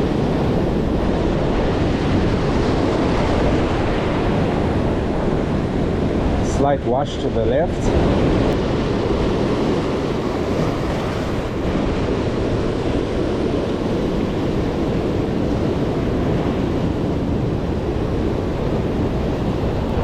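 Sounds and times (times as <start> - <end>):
sea surf breaking: 0.0 - 20.0
wind buffeting microphone: 0.0 - 20.0.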